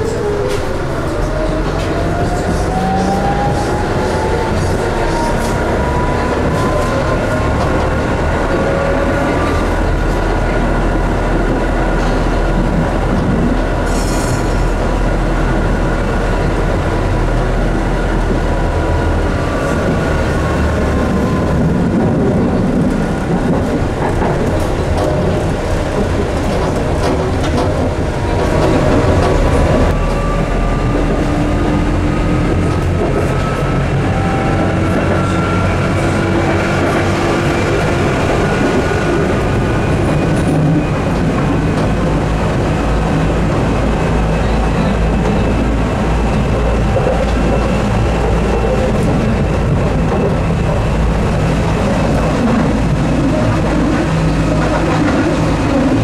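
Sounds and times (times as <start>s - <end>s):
tram wheels rumbling on rails: 0.0s - 56.0s.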